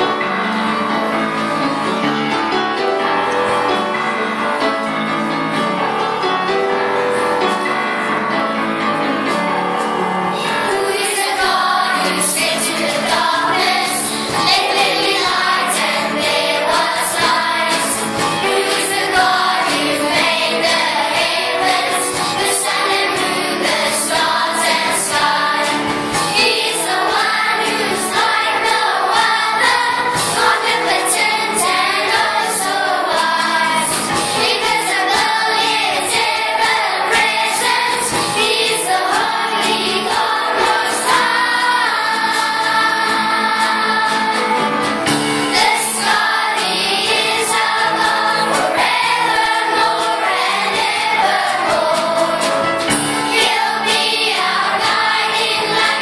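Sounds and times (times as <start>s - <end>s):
children's choir singing: 0.0s - 56.0s
instrumental backing music: 0.0s - 56.0s.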